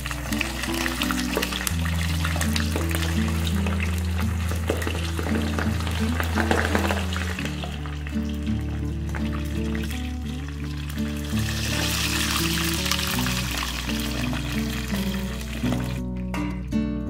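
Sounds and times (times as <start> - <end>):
pork sizzling in frying pan: 0.0 - 16.0
oil crackling pops: 0.0 - 16.3
background music: 0.0 - 17.0.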